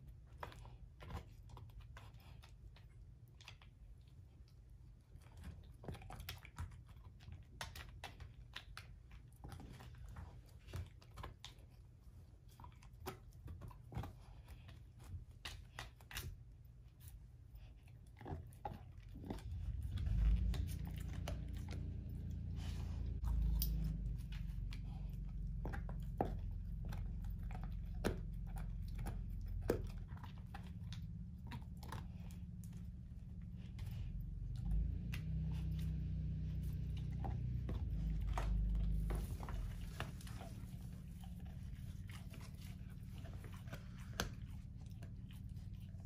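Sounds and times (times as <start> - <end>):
dog gnawing and chewing bone: 0.0 - 46.0
low steady rumble: 0.0 - 46.0.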